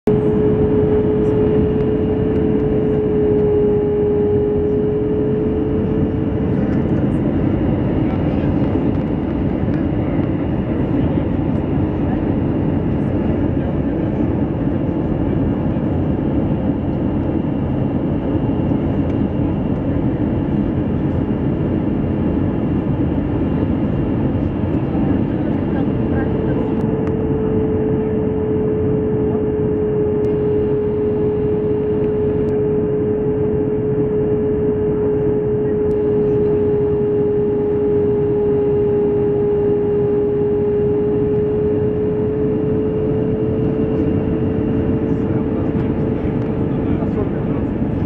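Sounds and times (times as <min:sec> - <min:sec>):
jet engine and airflow rumble: 0:00.0 - 0:48.0
steady hum: 0:00.1 - 0:48.0.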